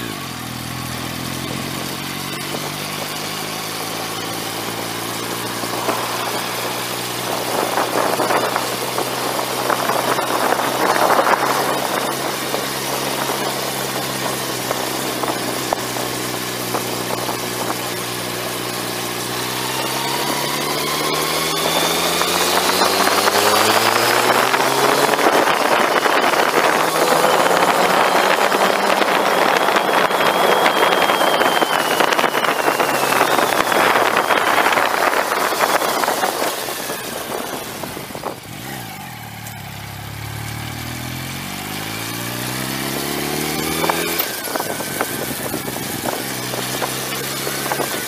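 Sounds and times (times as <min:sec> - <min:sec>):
motorcycle engine running: 0:00.0 - 0:48.0
rushing wind noise: 0:01.4 - 0:39.0, 0:40.9 - 0:48.0.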